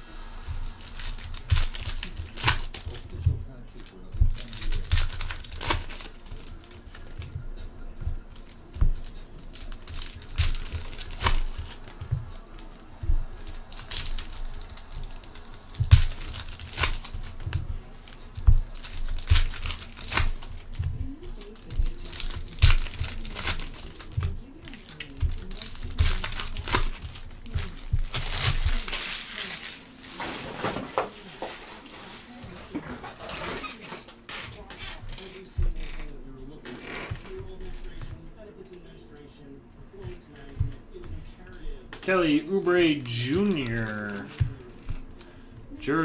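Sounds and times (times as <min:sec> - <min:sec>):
foil packs tearing and crinkling: 0:00.0 - 0:07.4, 0:08.3 - 0:38.0, 0:42.6 - 0:45.3.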